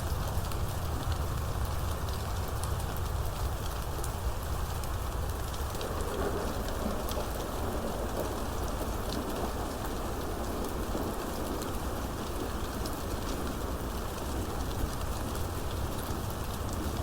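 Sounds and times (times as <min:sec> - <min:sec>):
rain drops on hard surface: 0:00.0 - 0:17.0.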